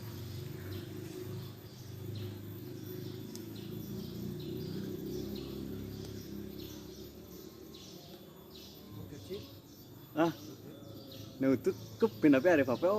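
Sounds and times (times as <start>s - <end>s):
bird chirping: 0.0s - 12.9s.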